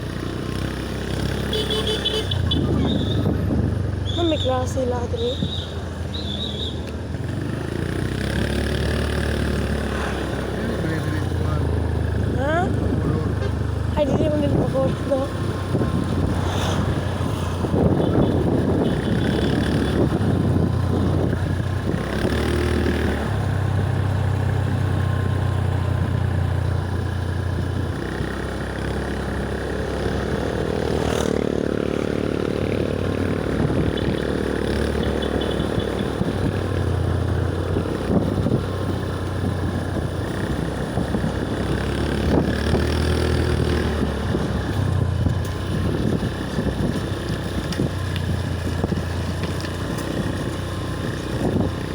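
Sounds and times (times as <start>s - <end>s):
vehicle engines on a road: 0.0s - 51.9s
wind rumbling on microphone: 2.4s - 8.5s, 9.4s - 51.9s.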